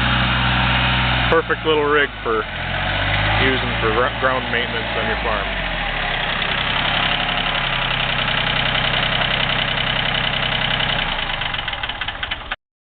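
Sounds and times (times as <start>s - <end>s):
diesel tractor engine idling: 0.0s - 12.6s.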